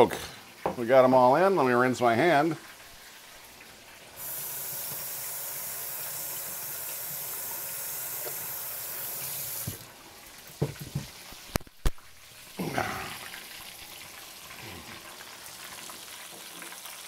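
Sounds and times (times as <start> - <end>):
tap water running: 2.5 - 17.0.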